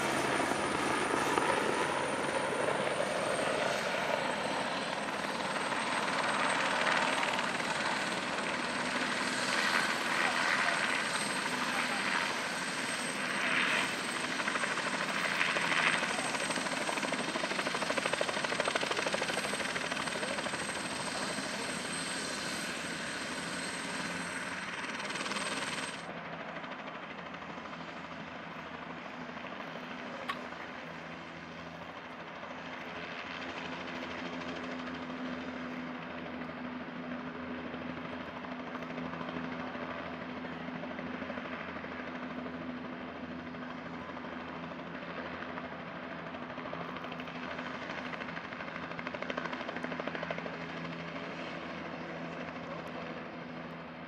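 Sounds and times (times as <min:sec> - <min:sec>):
helicopter engine and rotor: 0:00.0 - 0:54.0.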